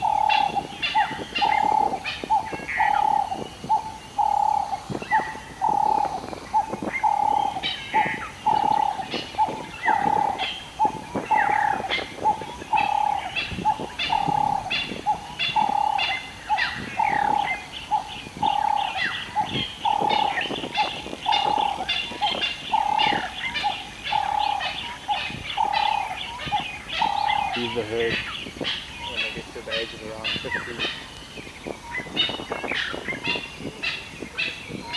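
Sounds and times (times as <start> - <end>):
birds chirping and whistling: 0.0 - 34.9.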